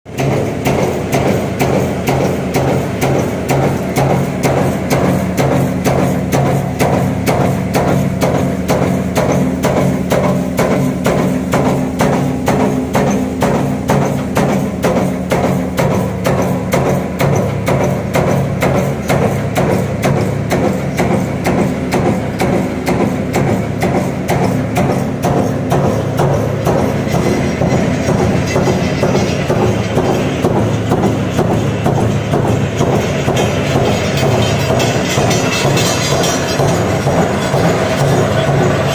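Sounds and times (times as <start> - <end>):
low motor hum: 0.1 - 38.9
press striking rhythmically: 0.1 - 38.9.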